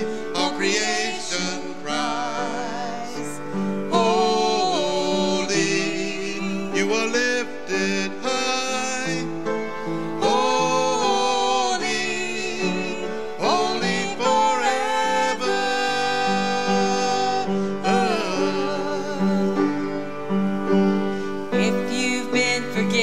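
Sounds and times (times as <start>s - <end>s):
person singing: 0.0s - 9.5s, 10.1s - 20.1s, 21.5s - 23.0s
piano chords: 0.0s - 23.0s.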